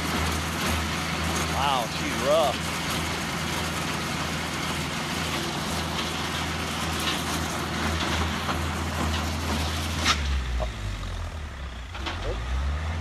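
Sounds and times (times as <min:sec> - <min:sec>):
trencher engine running: 0:00.0 - 0:13.0.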